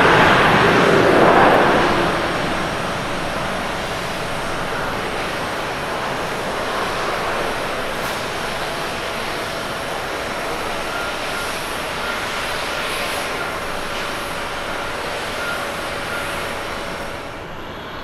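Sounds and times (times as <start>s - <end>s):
jet engine and air rush: 0.0s - 18.0s.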